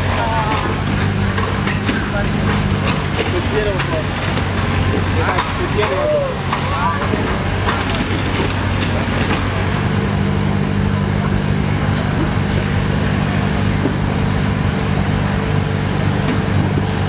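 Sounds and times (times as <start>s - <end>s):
hydraulic machine engine droning: 0.0s - 17.0s.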